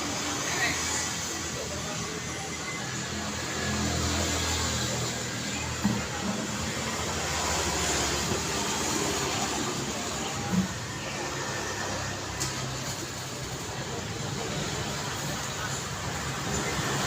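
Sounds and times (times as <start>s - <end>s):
road noise roar: 0.0s - 17.0s
vehicles passing: 0.0s - 17.0s.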